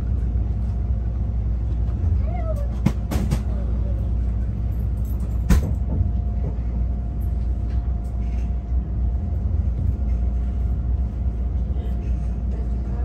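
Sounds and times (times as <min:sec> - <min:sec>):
train rumble inside cabin: 0:00.0 - 0:13.0.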